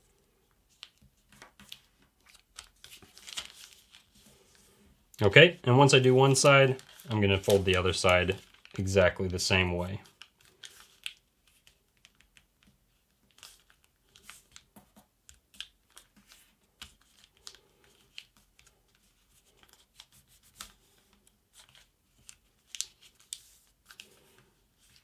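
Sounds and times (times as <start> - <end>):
paper being folded and creased: 0.7 - 4.8, 5.9 - 25.0.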